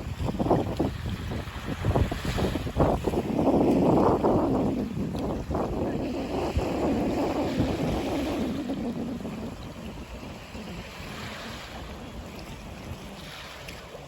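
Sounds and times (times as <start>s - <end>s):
sea waves washing onto shore: 0.0s - 14.0s
wind on microphone: 0.0s - 14.0s.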